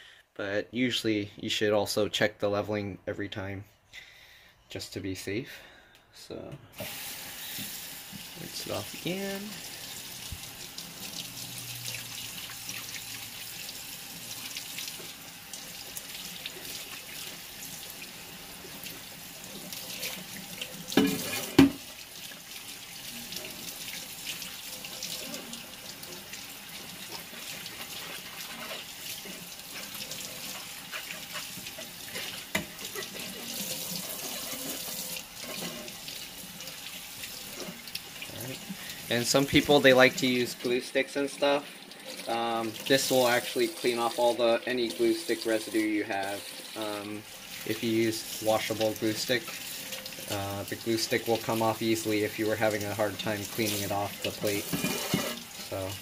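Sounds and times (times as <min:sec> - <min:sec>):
faucet running into a steel sink: 0:06.8 - 0:56.0.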